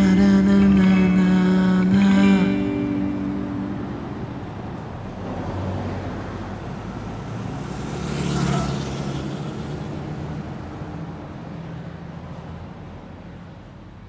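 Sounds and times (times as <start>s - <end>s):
vehicle passing close: 0.0s - 12.1s
cars driving along street: 0.0s - 14.0s.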